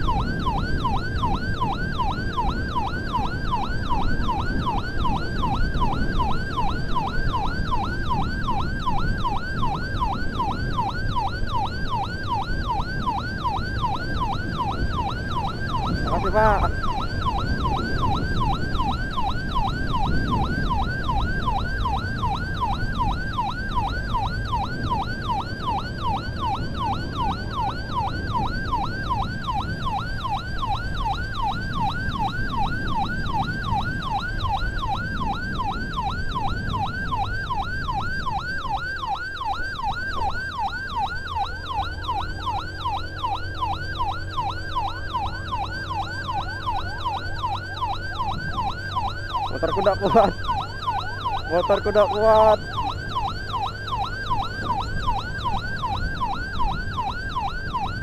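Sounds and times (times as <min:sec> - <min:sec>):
ambulance siren yelping: 0:00.0 - 0:58.0
engine and road noise: 0:00.0 - 0:58.0.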